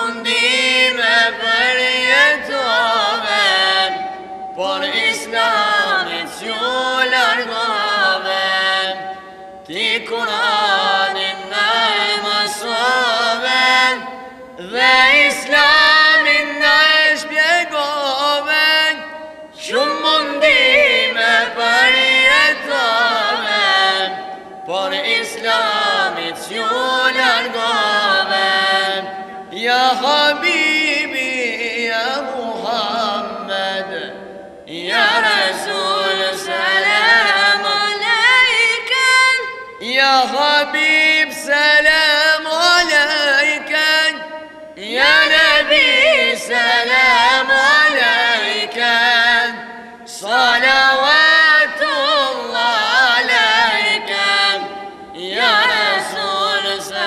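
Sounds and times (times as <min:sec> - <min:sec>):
boys singing unaccompanied: 0:00.0 - 0:14.0, 0:19.6 - 0:57.0.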